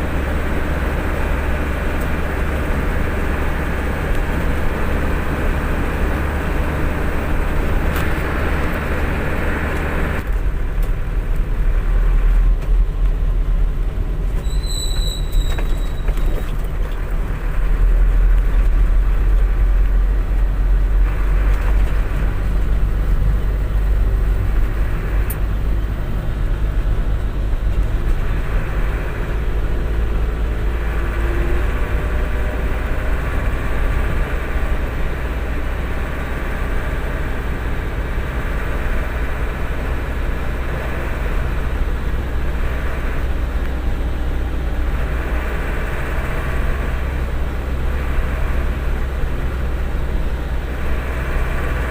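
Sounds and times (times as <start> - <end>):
truck engine rumble: 0.0 - 51.9.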